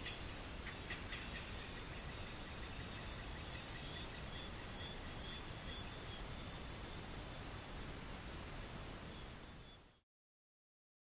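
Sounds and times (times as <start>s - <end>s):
high-pitched insect hiss: 0.0s - 10.0s
insect chirping: 0.0s - 10.0s.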